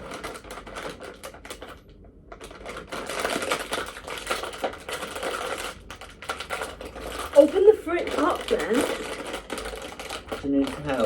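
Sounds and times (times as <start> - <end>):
plastic snack packet crackling: 0.0 - 11.0.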